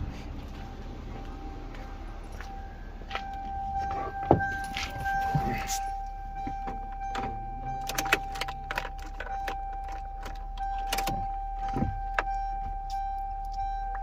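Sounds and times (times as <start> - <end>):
steady high-pitched tone: 0.0 - 14.0
ignition clicks and knocks: 2.4 - 14.0.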